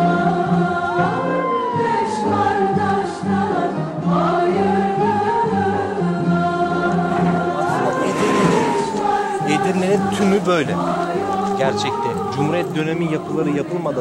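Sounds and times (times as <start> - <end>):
singing voices: 0.0 - 14.0.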